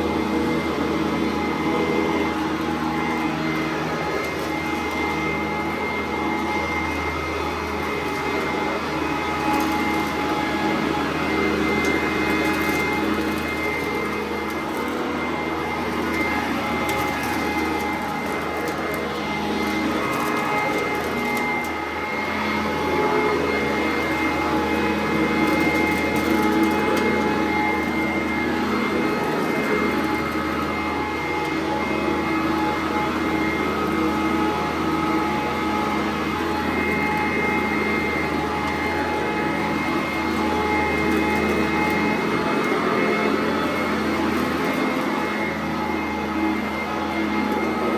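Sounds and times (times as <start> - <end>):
upright vacuum running: 0.0 - 47.9.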